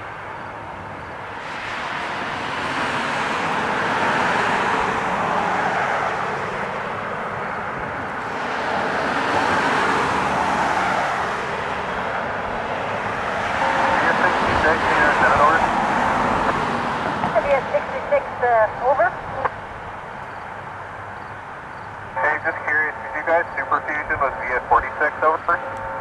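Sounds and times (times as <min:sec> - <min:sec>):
cars passing on road: 0:00.0 - 0:26.0.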